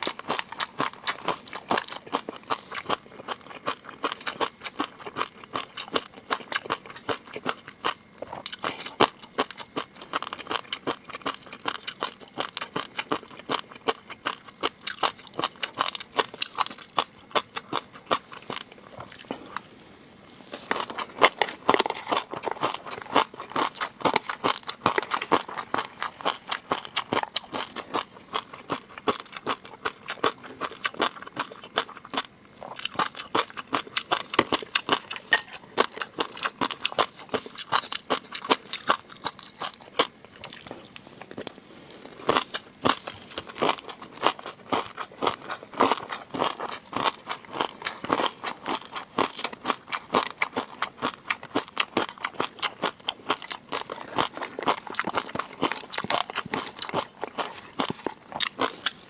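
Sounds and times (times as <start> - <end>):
chewing with crisp crunching: 0.0 - 59.0.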